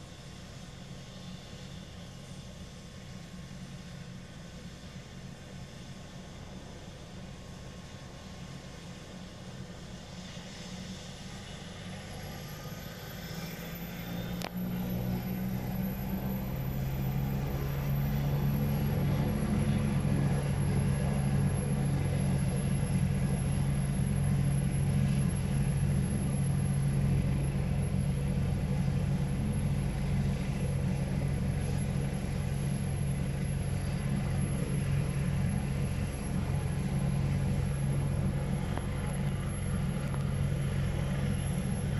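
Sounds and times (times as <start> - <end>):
helicopter rotor beat: 0.0 - 41.9
helicopter turbine whine: 0.0 - 41.9.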